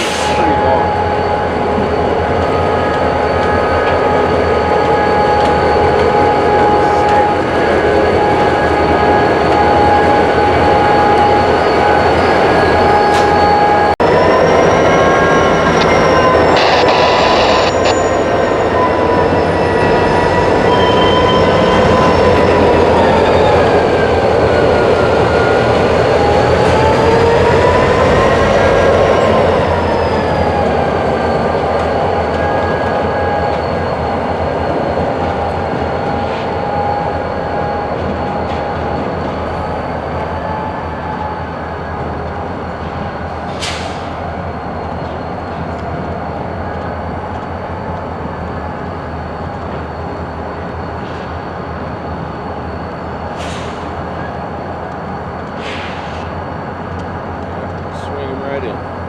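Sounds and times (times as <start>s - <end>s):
steel wheels squealing on rails: 0.0s - 59.0s.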